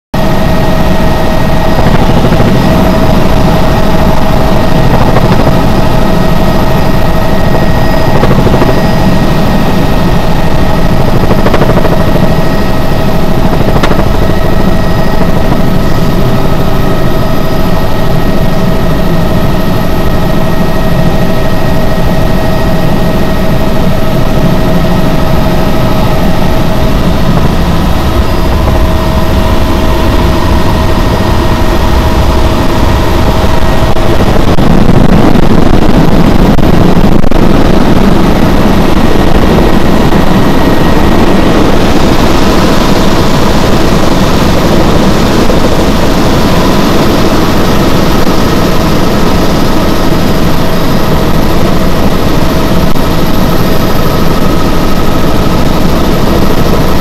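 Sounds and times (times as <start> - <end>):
helicopter rotor and engine drone: 0.2 - 57.0.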